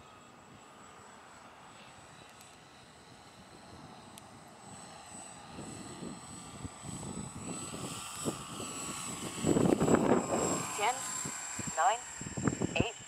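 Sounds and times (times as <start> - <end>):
model plane propellers droning: 0.0 - 13.0.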